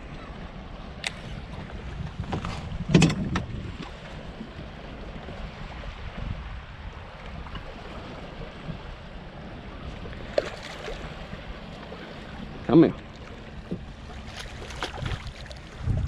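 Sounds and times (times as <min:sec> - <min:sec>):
wind on microphone: 0:00.0 - 0:12.7, 0:13.5 - 0:16.0
water lapping against boat: 0:00.0 - 0:16.0.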